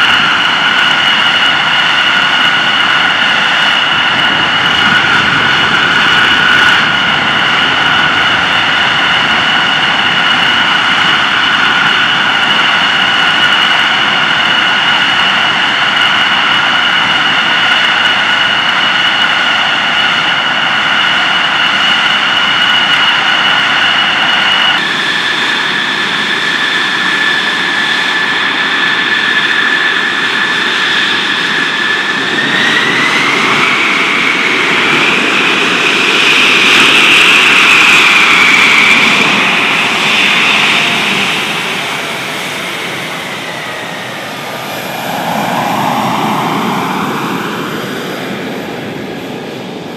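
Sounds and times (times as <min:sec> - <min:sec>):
jet engine whine: 0:00.0 - 0:49.9.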